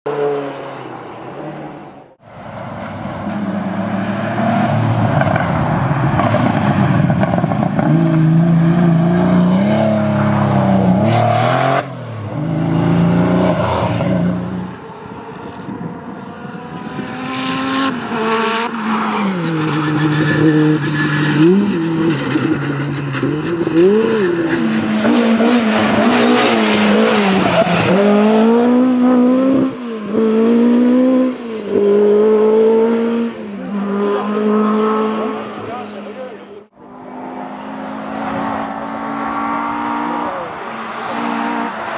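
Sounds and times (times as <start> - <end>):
rally car engines revving: 0.1 - 41.9.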